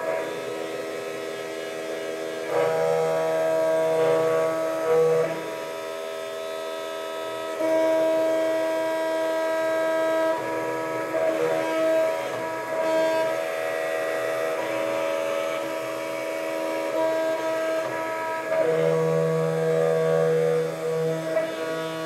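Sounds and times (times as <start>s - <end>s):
sustained synthesizer chords: 0.0s - 22.0s.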